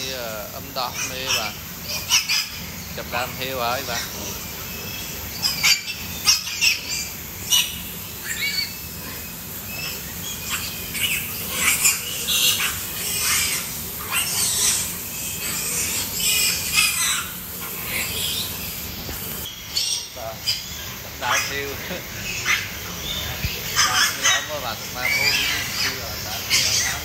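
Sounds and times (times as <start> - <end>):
piglets squealing: 0.0 - 27.0.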